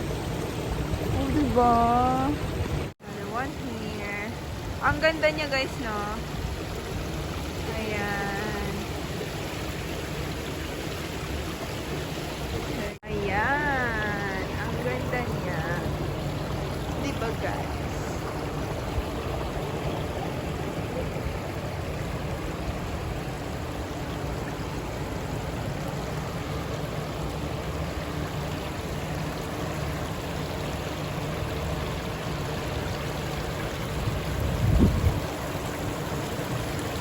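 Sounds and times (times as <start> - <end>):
fountain water running: 0.0 - 37.0.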